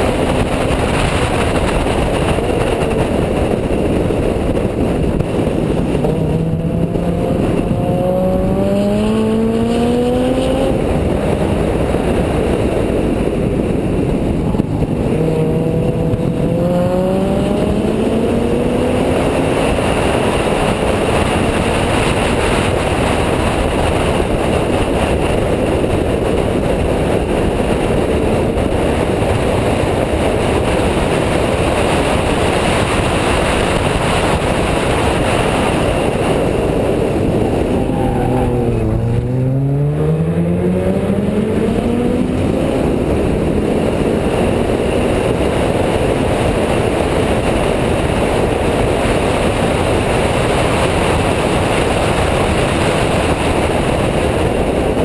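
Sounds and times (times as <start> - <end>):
car engine revving: 0.0 - 26.9, 30.5 - 48.2.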